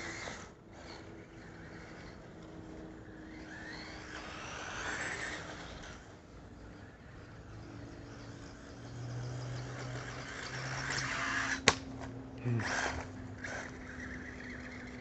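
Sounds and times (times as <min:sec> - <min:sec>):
electric rc truck motor and tyres: 0:00.0 - 0:15.0.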